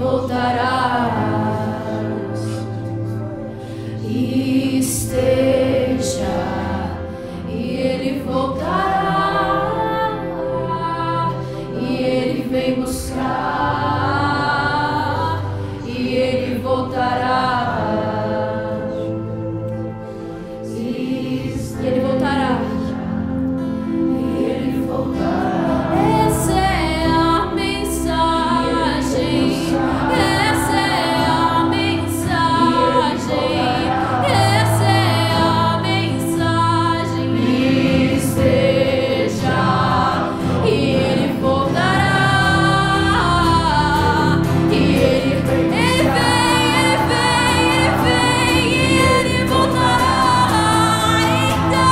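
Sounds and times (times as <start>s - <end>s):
woman singing: 0.0s - 3.2s, 3.9s - 19.4s, 20.6s - 51.9s
acoustic guitar: 0.0s - 51.9s
keyboard: 0.0s - 51.9s.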